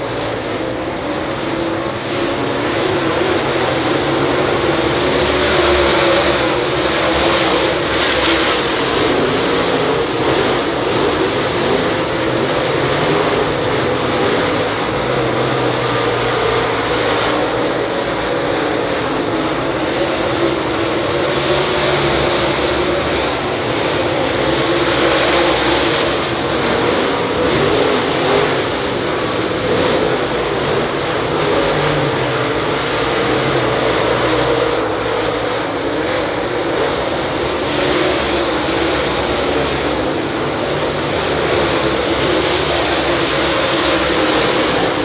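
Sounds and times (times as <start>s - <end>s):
race car engines roaring: 0.0s - 45.0s.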